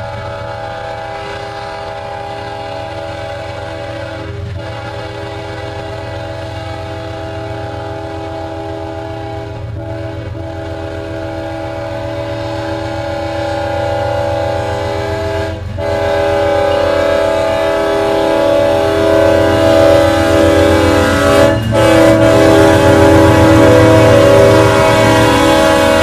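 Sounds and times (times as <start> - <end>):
locomotive air horn chord: 0.0 - 26.0
locomotive engine rumble: 0.0 - 26.0.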